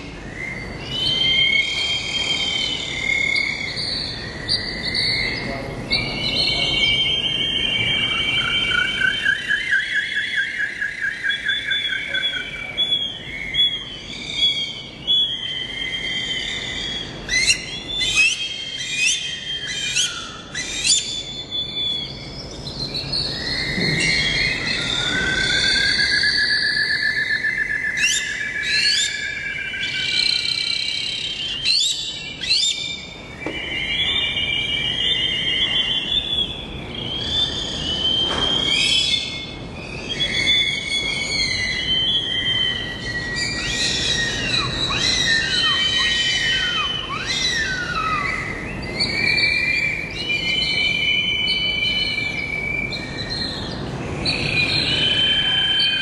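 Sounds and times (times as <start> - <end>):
birds chirping and trilling: 0.0 - 56.0
long wavering bird whistle: 0.0 - 56.0.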